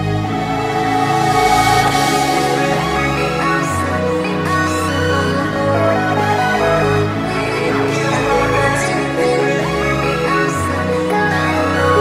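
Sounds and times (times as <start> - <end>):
background music with held chords: 0.0 - 12.0.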